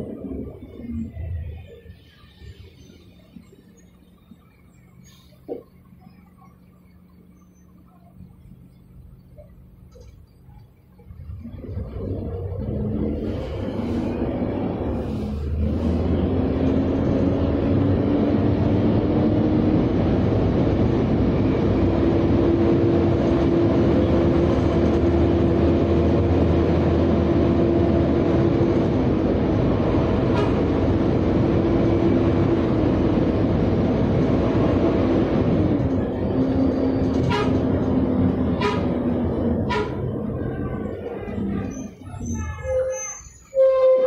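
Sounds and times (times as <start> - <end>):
bus engine rumble and whine: 0.0 - 44.0.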